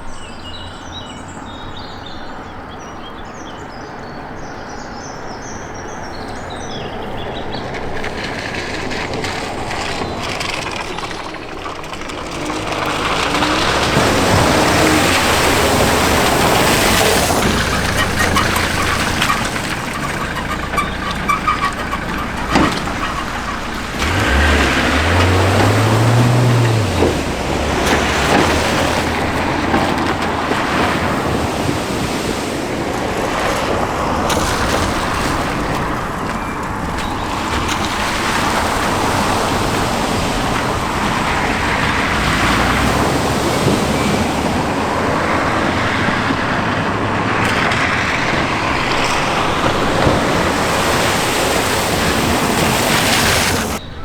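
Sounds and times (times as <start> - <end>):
vehicle engine: 0.0 - 54.0
water rushing and splashing: 4.8 - 54.0.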